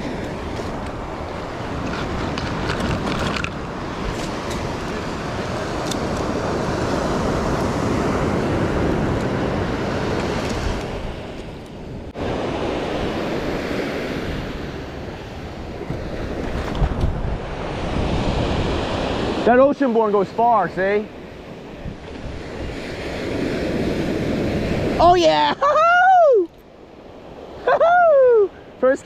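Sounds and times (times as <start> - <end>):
wind rumbling on microphone: 0.0 - 28.8
surf breaking on a beach: 0.0 - 29.0.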